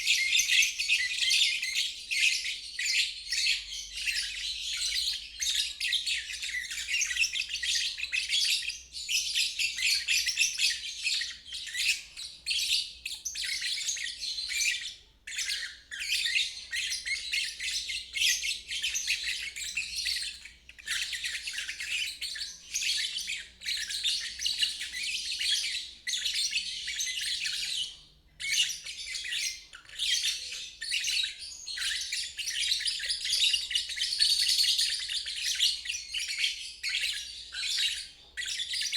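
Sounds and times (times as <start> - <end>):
lovebird chirping: 0.0 - 38.9.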